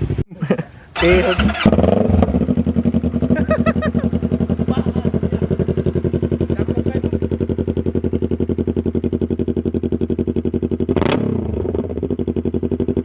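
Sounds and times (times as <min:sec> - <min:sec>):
motorcycle engine idling: 0:00.8 - 0:13.0.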